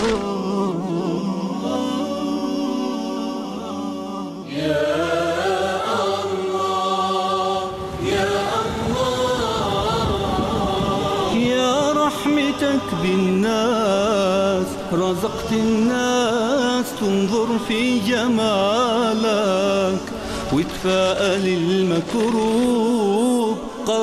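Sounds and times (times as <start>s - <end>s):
choir singing a cappella: 0.0s - 24.0s.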